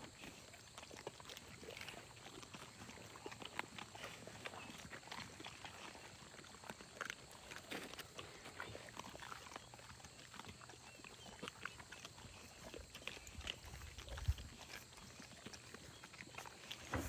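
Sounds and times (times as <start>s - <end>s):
dogs crunching bones: 0.0s - 17.0s.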